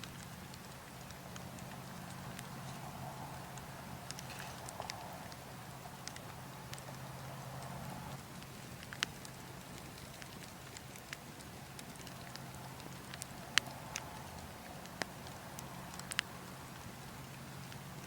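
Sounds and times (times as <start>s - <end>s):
burning logs crackling: 0.0s - 18.0s
low wind rumble: 0.0s - 18.0s.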